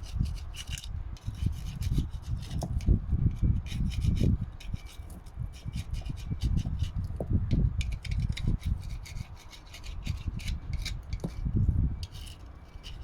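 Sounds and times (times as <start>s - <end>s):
hand rubbing and scraping metal: 0.0s - 13.0s.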